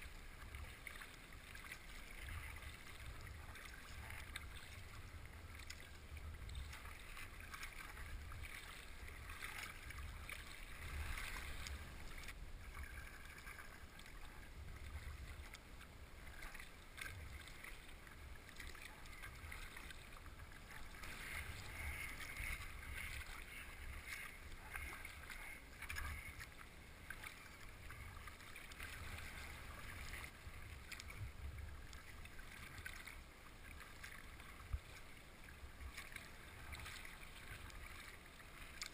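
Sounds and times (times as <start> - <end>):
paddle strokes in water: 0.0 - 38.9.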